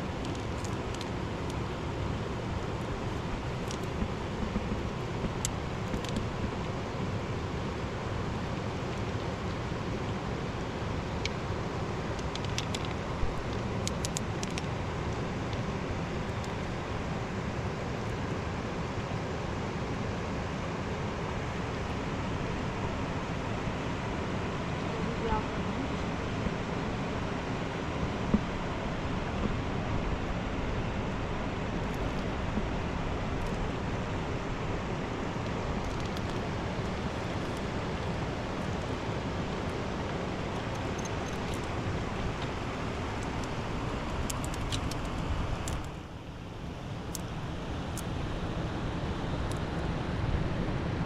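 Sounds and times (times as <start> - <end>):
river rushing: 0.0 - 51.0.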